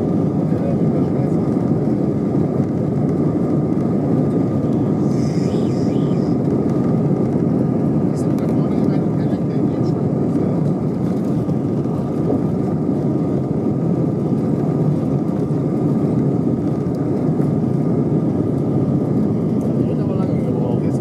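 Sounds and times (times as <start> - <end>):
jet engines rumbling in cabin: 0.0 - 21.0.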